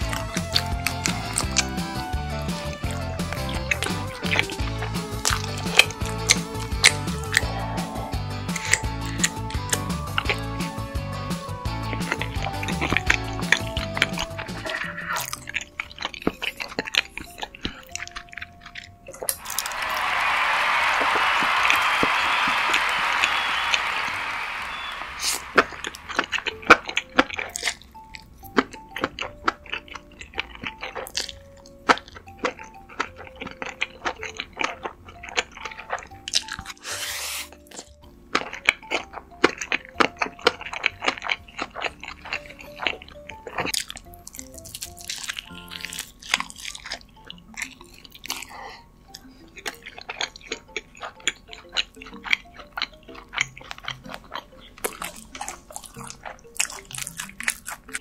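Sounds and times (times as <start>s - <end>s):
wet mouth clicks: 0.0s - 1.8s, 2.5s - 10.5s, 11.8s - 19.7s, 24.7s - 58.0s
chewing and crunching: 0.0s - 58.0s
soft background music: 0.0s - 58.0s.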